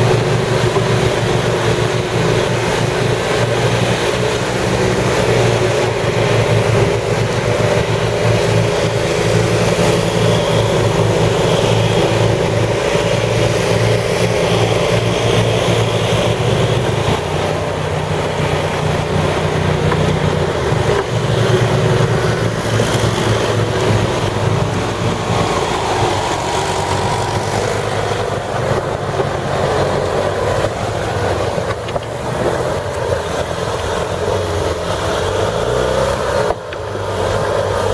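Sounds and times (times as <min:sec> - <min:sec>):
atv engine drone: 0:00.0 - 0:37.9.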